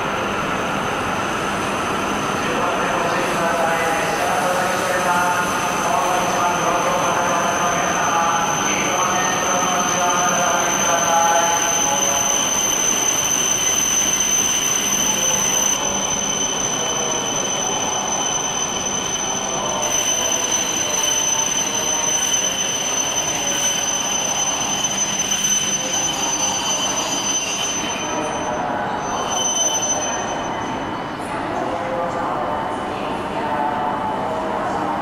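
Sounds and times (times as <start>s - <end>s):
thin high whine: 0.1s - 31.0s.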